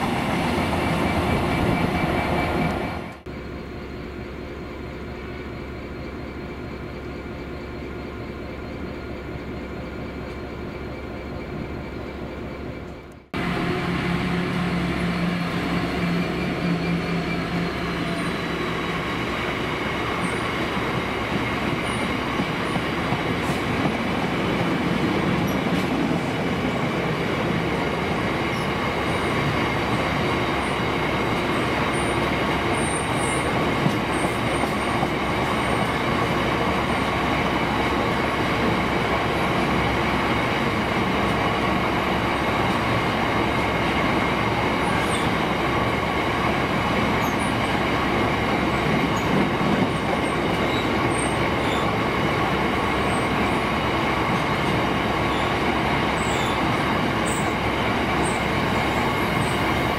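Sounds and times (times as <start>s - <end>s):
diesel locomotive engine: 0.0s - 59.9s
freight wagons rumbling on rails: 0.0s - 59.9s.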